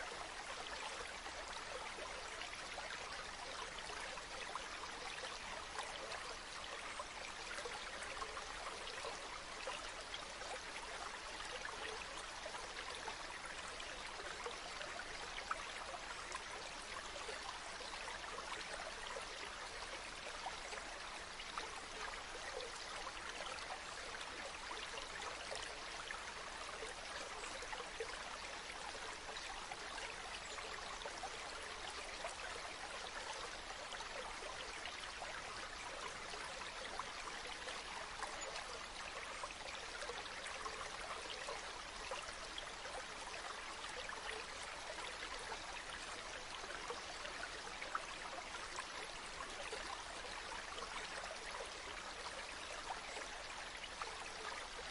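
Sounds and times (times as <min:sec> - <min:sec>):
river flowing: 0:00.0 - 0:54.9.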